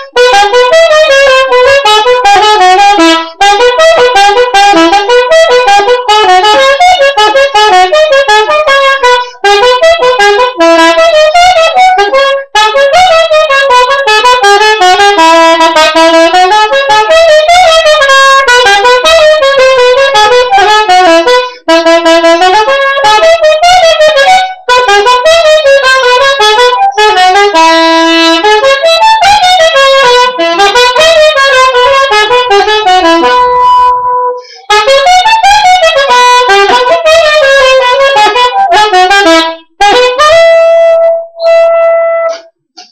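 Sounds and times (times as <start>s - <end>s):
soprano saxophone melody: 0.0s - 42.6s.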